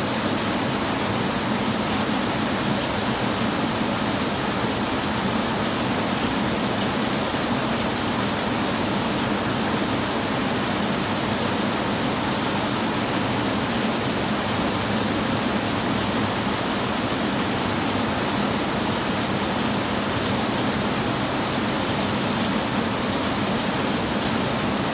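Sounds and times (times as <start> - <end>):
heavy rain on a tin roof: 0.0 - 24.9.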